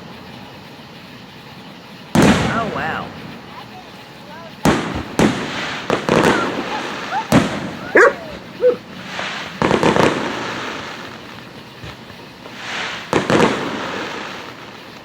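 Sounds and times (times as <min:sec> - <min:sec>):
firework shells booming: 0:00.0 - 0:15.0.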